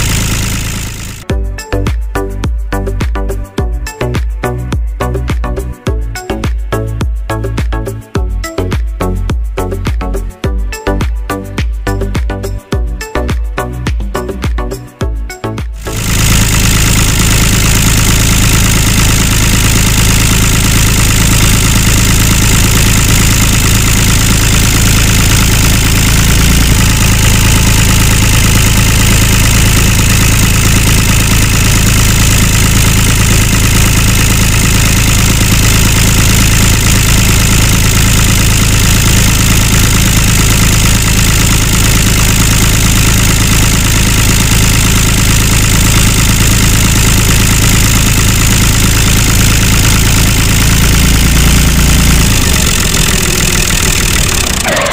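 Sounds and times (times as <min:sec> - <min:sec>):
tractor engine idling: 0:00.0 - 0:14.9, 0:15.7 - 0:54.9.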